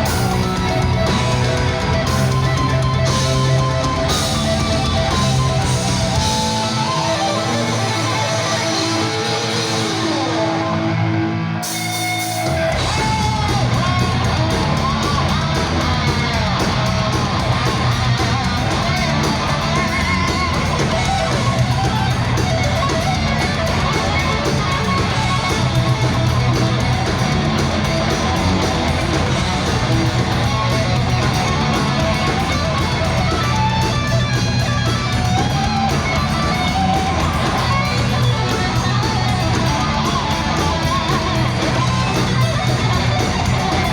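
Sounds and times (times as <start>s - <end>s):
electric guitar: 0.0s - 43.9s
heavy metal band playing: 0.0s - 43.9s
lead guitar bends: 0.0s - 43.9s.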